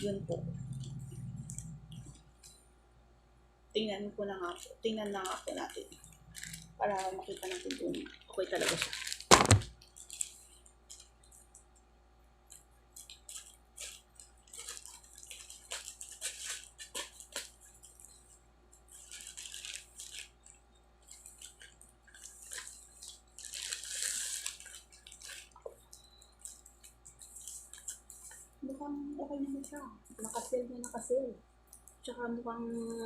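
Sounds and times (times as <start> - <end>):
plastic packaging crinkling: 4.3 - 11.8, 12.4 - 32.0.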